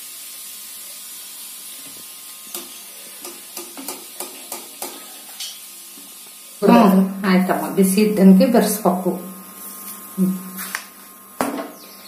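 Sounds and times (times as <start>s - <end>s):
hot oil hissing: 0.0s - 12.0s.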